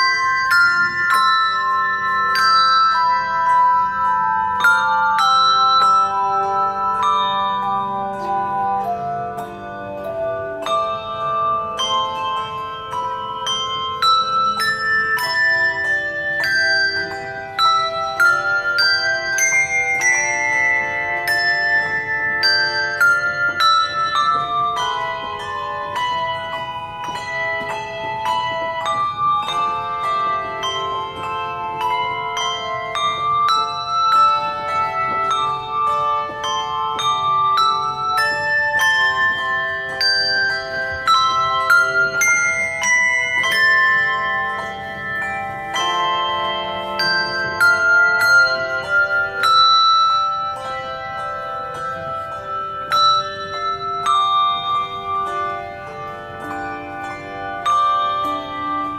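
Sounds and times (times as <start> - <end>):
handbells playing a melody: 0.0 - 58.9.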